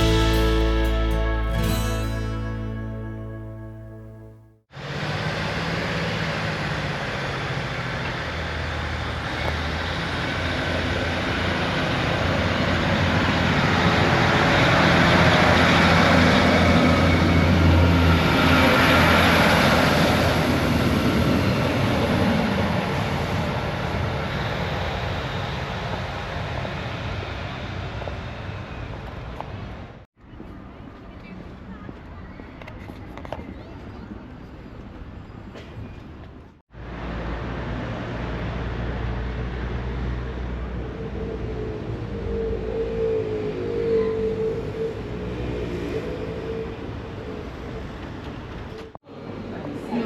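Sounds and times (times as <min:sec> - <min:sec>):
train passing: 0:00.0 - 0:03.9, 0:04.8 - 0:30.0, 0:34.2 - 0:50.0.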